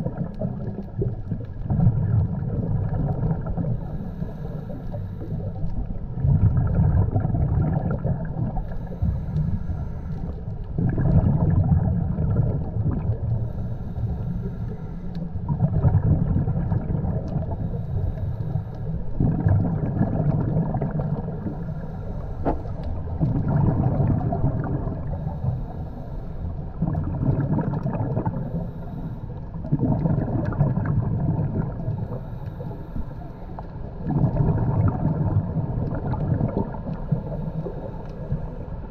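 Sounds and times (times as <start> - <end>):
scuba exhaust bubbles: 0.0 - 38.9.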